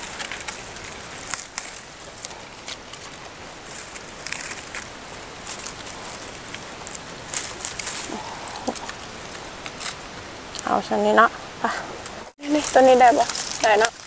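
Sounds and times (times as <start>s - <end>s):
dry bamboo leaves rustling: 0.0s - 14.0s.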